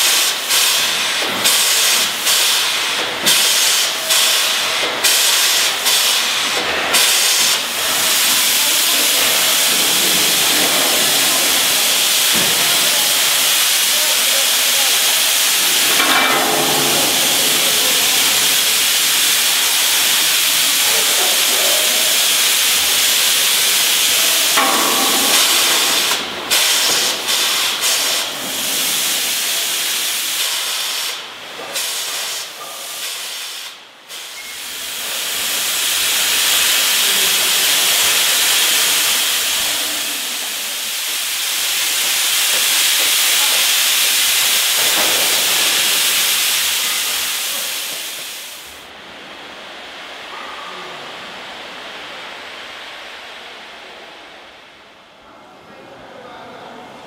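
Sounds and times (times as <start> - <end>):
steam hissing from locomotive: 0.0 - 54.2.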